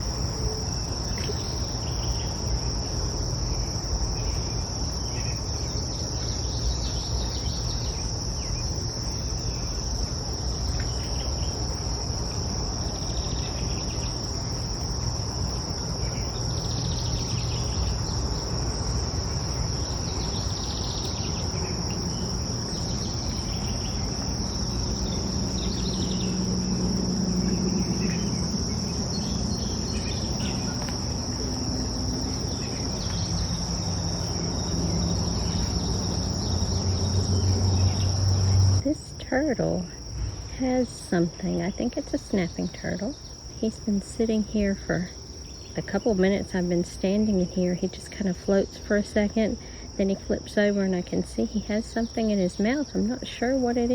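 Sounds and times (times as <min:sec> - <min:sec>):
shrill insect chorus: 0:00.0 - 0:53.9.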